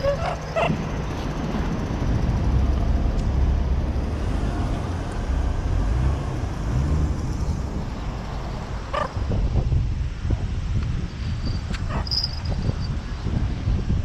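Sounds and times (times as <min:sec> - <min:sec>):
road vehicle rumble: 0:00.0 - 0:14.0.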